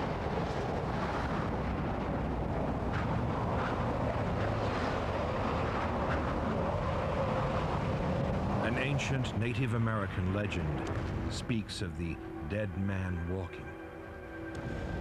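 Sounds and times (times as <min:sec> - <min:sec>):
strong storm wind roaring: 0:00.0 - 0:12.4.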